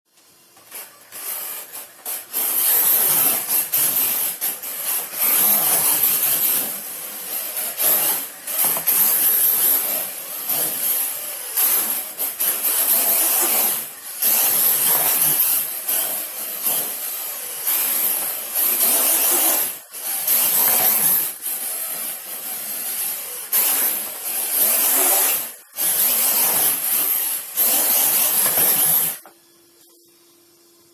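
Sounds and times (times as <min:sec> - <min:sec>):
toy car tyres hissing scrub: 0:00.6 - 0:29.2.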